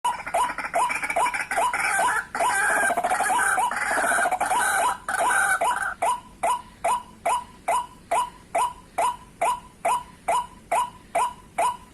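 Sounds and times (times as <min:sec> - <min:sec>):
bird calling: 0:00.1 - 0:11.9.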